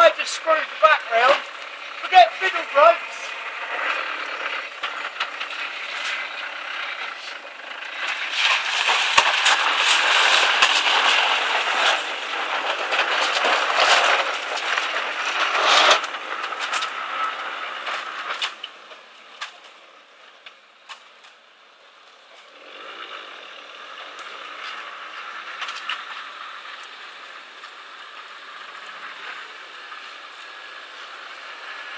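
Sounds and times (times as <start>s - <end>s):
tyres churning mud: 0.0s - 18.8s, 22.4s - 31.9s
distant off-road vehicle working: 0.0s - 31.9s
off-road vehicle driving through mud: 0.0s - 31.9s
sharp crackles and snaps: 0.8s - 2.6s, 3.3s - 21.4s, 23.8s - 31.9s.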